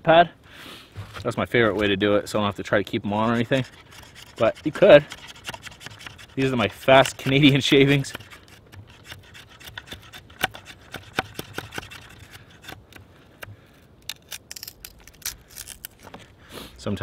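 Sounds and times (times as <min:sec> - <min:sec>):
knife shaving wood: 0:01.1 - 0:16.9.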